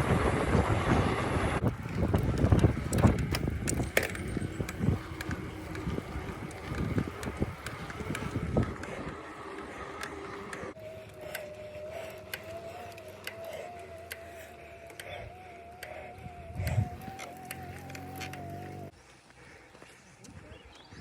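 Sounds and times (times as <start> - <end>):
bicycle rattling on rough track: 0.0 - 18.9.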